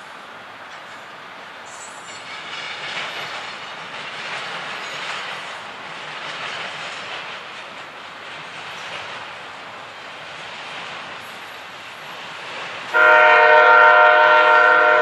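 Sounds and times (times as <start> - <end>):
steel wheels running on rails: 0.0 - 15.0.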